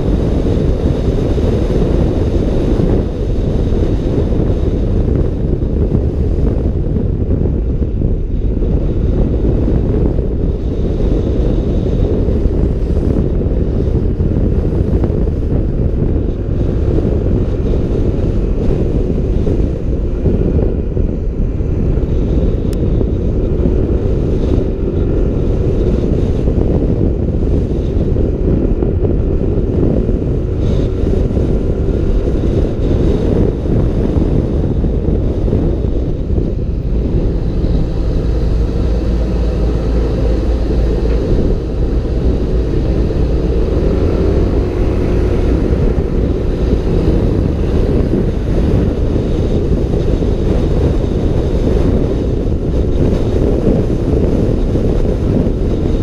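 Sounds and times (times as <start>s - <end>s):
faint engine drone: 0.0s - 56.0s
wind buffeting microphone: 0.0s - 56.0s.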